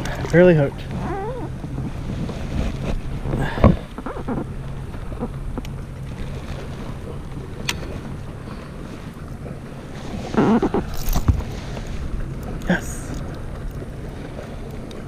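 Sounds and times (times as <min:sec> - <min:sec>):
water noise: 0:00.0 - 0:15.0
wind noise: 0:00.0 - 0:15.0.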